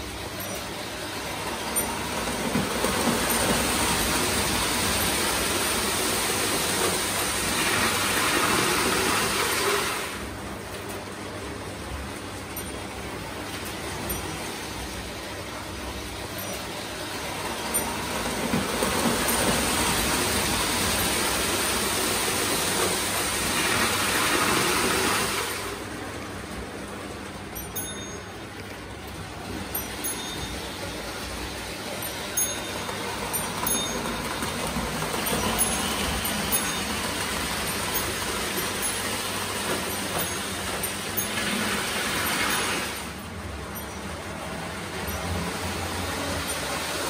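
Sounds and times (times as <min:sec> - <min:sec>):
model train rolling rumble: 0:00.0 - 0:47.0.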